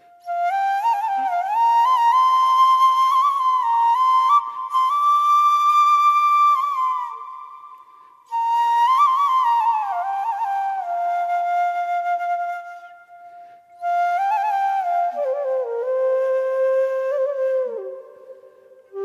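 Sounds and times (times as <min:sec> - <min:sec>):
solo flute melody: 0:00.0 - 0:19.0.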